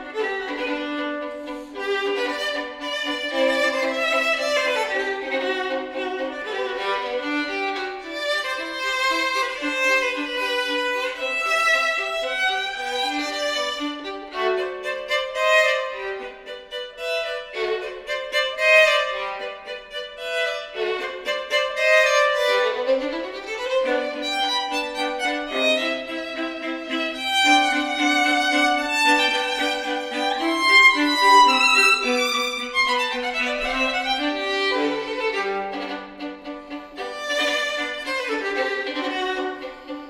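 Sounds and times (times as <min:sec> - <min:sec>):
violin and viola duet: 0:00.0 - 0:40.0.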